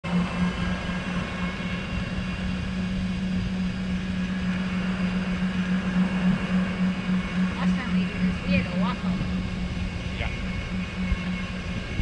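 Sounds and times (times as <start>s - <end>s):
golf cart drive hum: 0.0s - 12.0s
low rumble: 0.0s - 12.0s.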